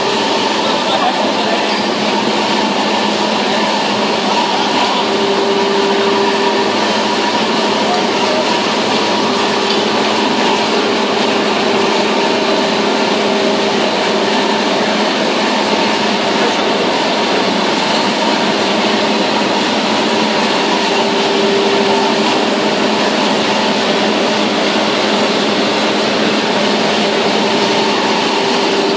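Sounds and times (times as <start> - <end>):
machinery running steadily: 0.0 - 28.9
pitched mechanical hum: 0.0 - 28.9.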